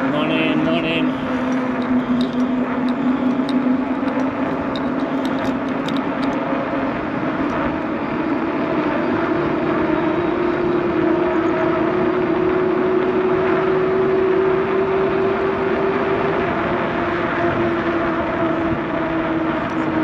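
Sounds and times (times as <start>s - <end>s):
bicycle rolling: 0.0s - 20.0s
droning tone: 0.0s - 20.0s.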